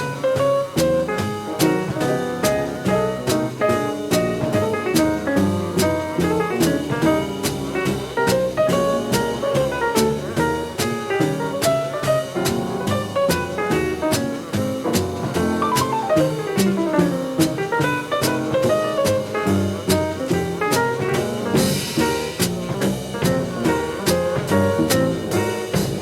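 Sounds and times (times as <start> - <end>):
drum kit beat: 0.0 - 26.0
jazz band playing swing: 0.0 - 26.0.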